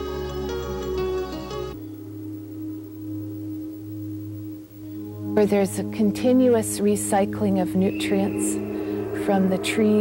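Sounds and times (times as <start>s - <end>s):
low droning tones: 1.7s - 10.0s.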